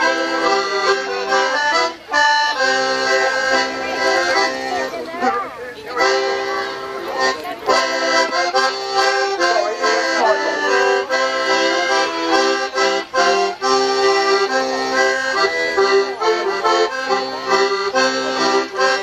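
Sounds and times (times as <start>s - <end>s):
lively folk dance tune: 0.0s - 19.0s.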